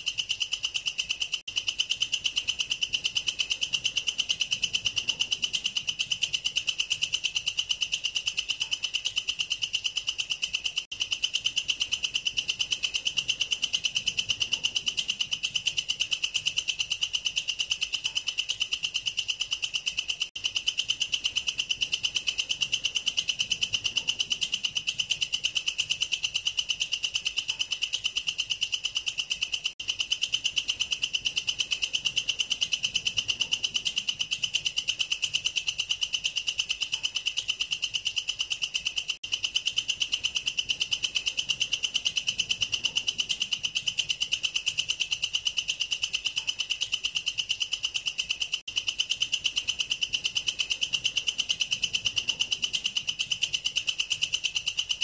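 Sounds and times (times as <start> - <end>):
katydid shrill pulsed trill: 0.0 - 55.0.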